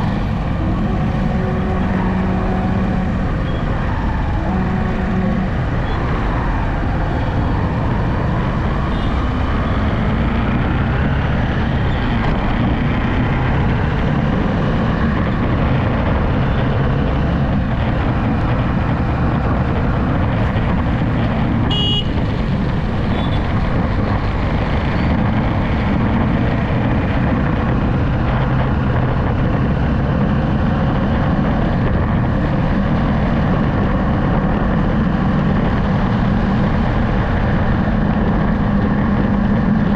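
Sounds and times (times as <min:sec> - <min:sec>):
engine hum: 0:00.0 - 0:39.9.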